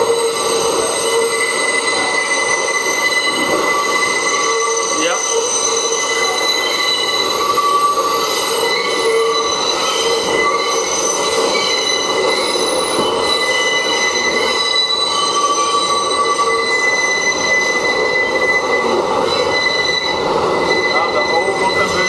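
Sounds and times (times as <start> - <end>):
train running noise: 0.0 - 22.0
train wheels squealing on rails: 0.0 - 22.0.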